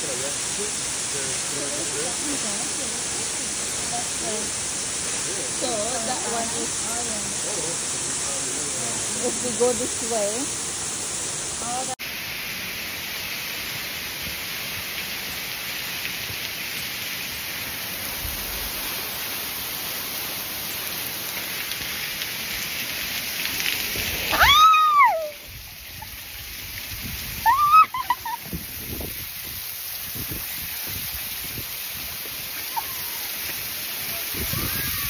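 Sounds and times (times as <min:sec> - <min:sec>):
falling water rushing: 0:00.0 - 0:35.0.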